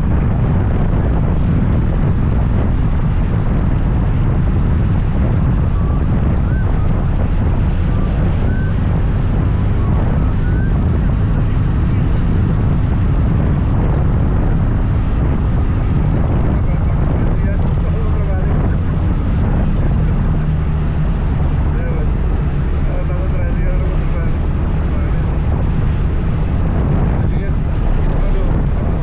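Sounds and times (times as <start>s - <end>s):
road noise: 0.0s - 29.0s
wind rush on microphone: 0.0s - 29.0s.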